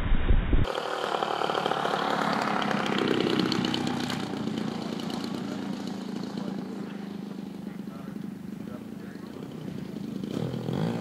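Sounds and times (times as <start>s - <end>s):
model plane engine droning: 0.7s - 11.0s.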